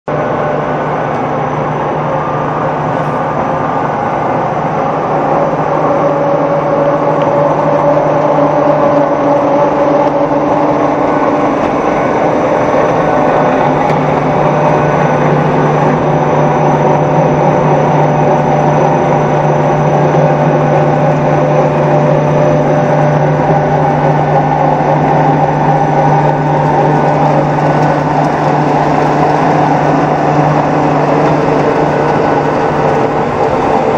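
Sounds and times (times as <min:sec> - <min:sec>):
constant low hum: 0:00.1 - 0:33.9
loud machinery din: 0:00.1 - 0:33.9.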